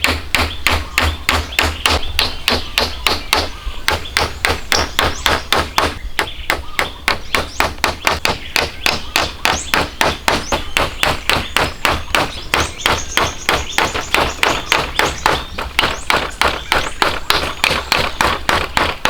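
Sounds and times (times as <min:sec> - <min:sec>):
hand tool striking rapidly: 0:00.0 - 0:19.0.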